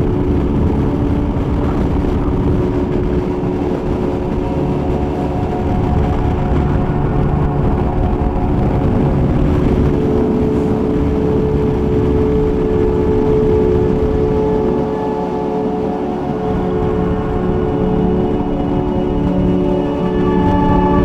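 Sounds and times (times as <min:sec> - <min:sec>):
road noise rushing: 0:00.0 - 0:21.0
steady hum: 0:00.0 - 0:21.0.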